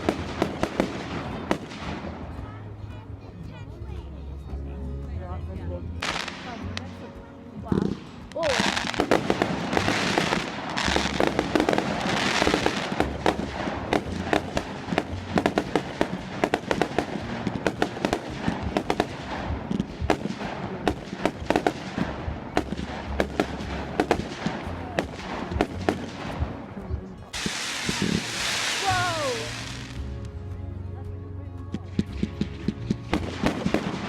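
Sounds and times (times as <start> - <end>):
hiss of burning fireworks: 0.0 - 2.5, 6.0 - 6.9, 7.6 - 26.6, 27.2 - 30.2, 32.0 - 34.0
fireworks crackling pops: 0.0 - 2.6, 6.0 - 30.4, 31.7 - 34.0
low fireworks booms: 0.0 - 2.8, 6.0 - 30.6, 31.7 - 34.0.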